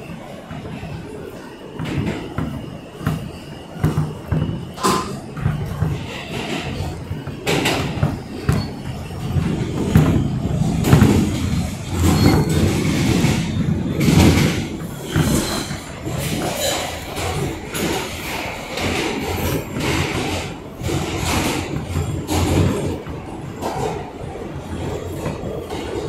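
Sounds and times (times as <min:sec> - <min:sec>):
subway wheels rumbling on rails: 0:00.0 - 0:26.0
train clacks and bangs: 0:00.0 - 0:26.0.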